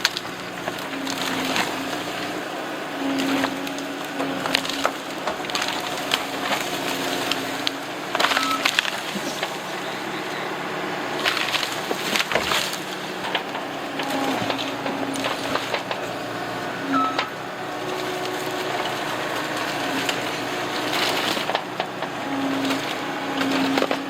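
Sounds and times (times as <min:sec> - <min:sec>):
diesel engine running: 0:00.0 - 0:24.0
wood cracking and snapping: 0:00.0 - 0:24.0.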